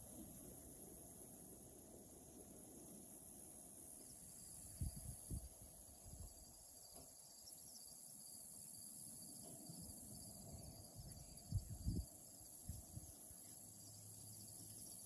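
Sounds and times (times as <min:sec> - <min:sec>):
insects chirring in grass: 0:00.0 - 0:15.0.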